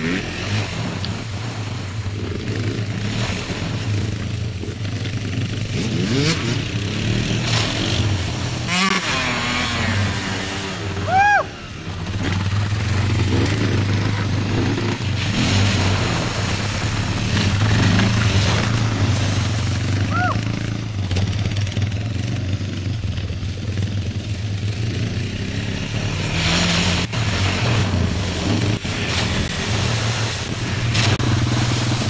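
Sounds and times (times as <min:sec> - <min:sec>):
atv and dirt bike engines revving: 0:00.0 - 0:32.0.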